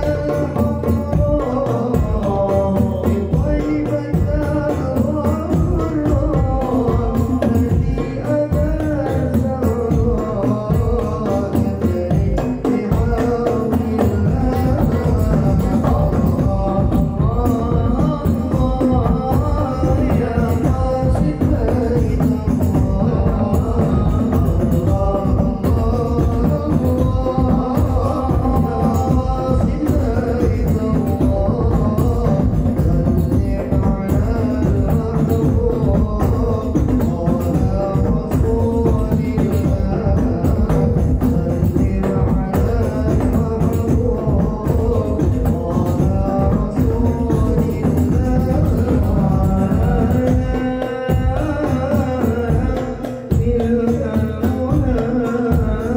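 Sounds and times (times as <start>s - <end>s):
frame drums and bass drum rhythm: 0.0s - 55.9s
voices singing in unison: 0.0s - 55.9s.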